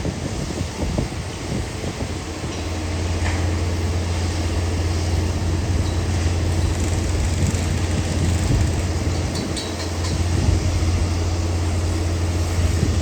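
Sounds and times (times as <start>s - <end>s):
electric train hum: 0.0s - 13.0s
train rumbling along track: 0.0s - 13.0s.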